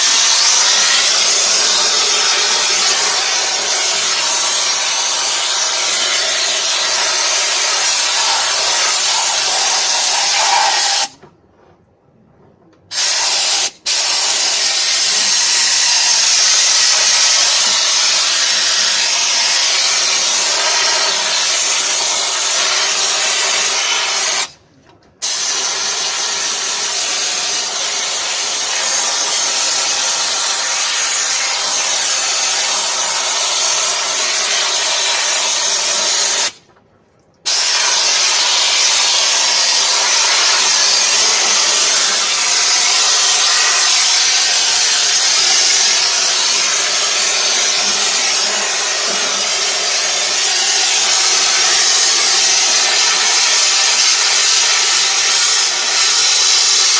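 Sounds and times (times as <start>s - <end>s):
pressure washer spraying metal rim: 0.0s - 11.2s, 12.9s - 24.5s, 25.2s - 36.6s, 37.5s - 56.9s.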